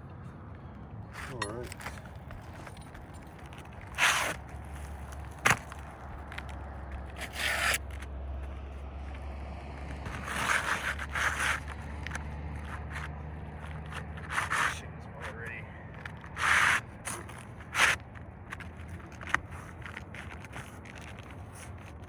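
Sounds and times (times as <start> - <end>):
shingles scraping: 1.2 - 8.1, 9.8 - 14.9, 16.0 - 22.0.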